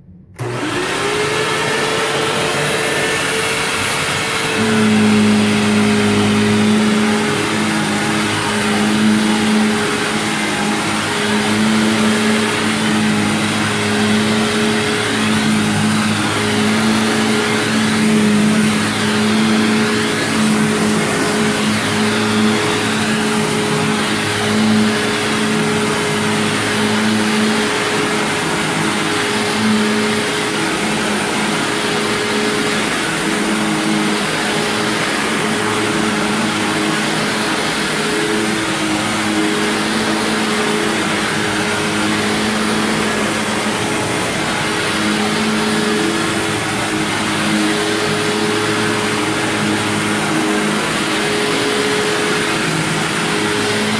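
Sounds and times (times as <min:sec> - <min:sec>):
vacuum cleaner on carpet: 0:00.0 - 0:53.9.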